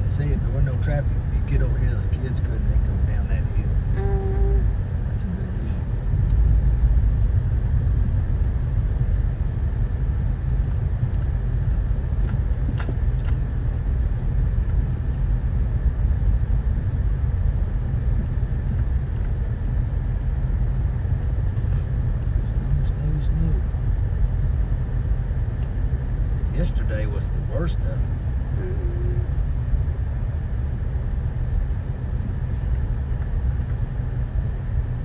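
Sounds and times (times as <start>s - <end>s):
car driving on snowy road: 0.0s - 35.0s.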